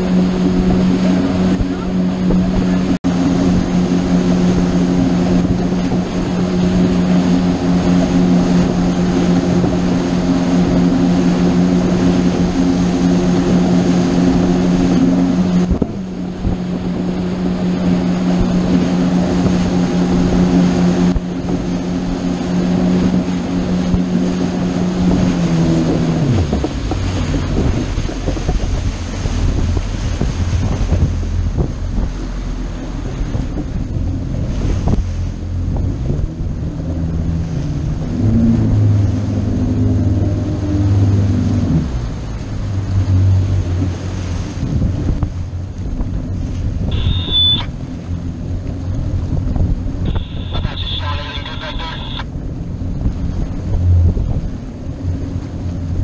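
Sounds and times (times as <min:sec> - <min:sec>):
wind on microphone: 0:00.0 - 0:50.8, 0:52.2 - 0:56.0
motorboat engine running: 0:00.0 - 0:56.0.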